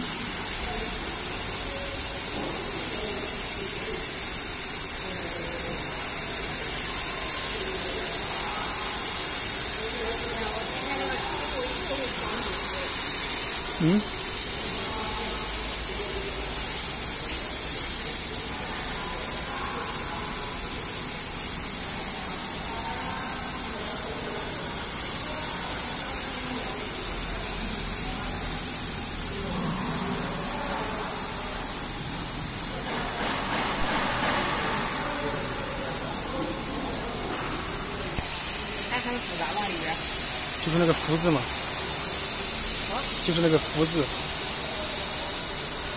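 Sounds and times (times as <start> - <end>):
laser cutter air hiss: 0.0 - 45.9.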